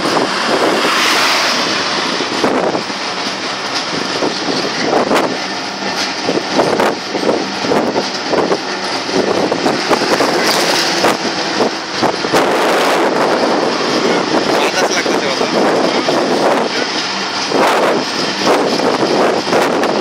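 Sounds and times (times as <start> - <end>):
train clattering: 0.0 - 20.0
train rushing noise: 0.0 - 20.0
wind on microphone: 0.0 - 20.0.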